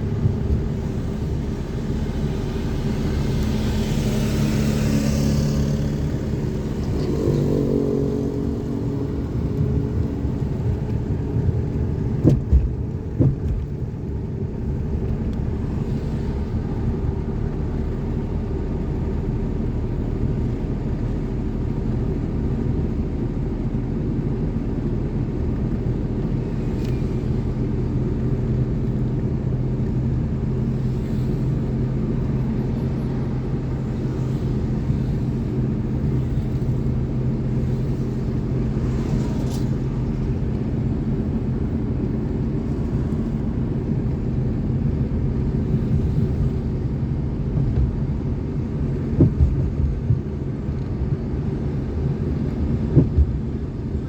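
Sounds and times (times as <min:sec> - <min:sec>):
low vehicle rumble: 0:00.0 - 0:54.0.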